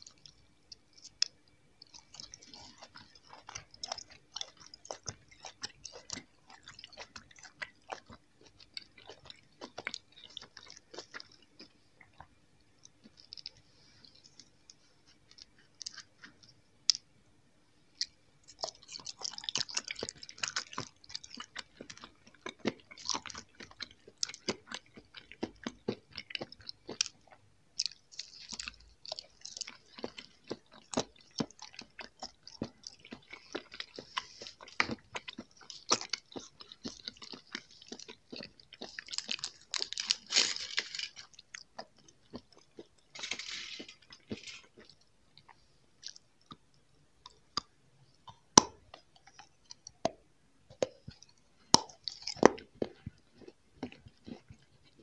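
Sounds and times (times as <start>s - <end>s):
chewing gummy candies: 0.0s - 17.1s, 17.9s - 55.0s.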